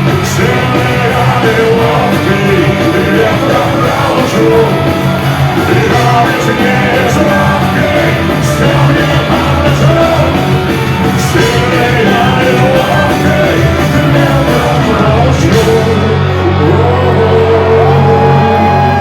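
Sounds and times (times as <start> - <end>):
person singing and shouting: 0.0 - 19.0
punk rock band playing: 0.0 - 19.0.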